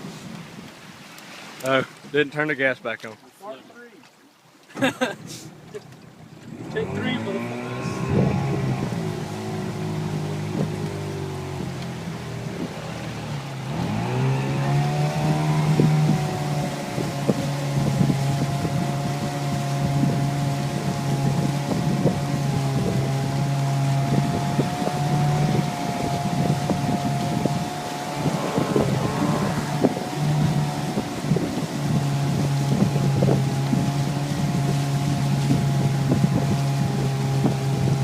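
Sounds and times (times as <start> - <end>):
outboard motor running: 4.6 - 38.0
wind on microphone: 6.5 - 38.0.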